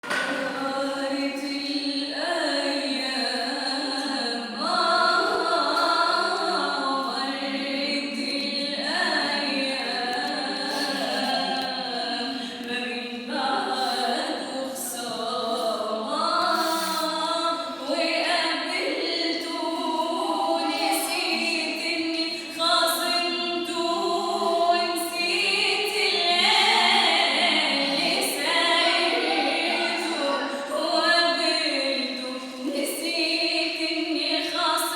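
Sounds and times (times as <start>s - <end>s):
woman singing: 0.2s - 34.9s.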